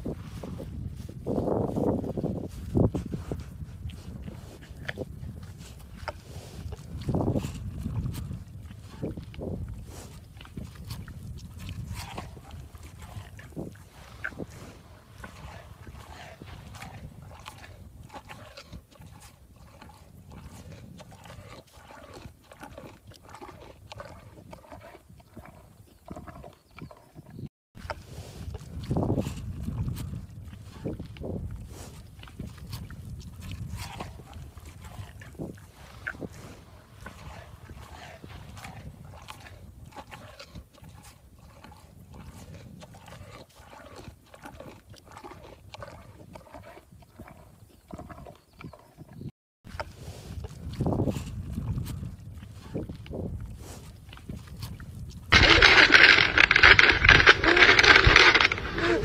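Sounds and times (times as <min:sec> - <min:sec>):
young hippo making noises: 0:00.1 - 0:59.0.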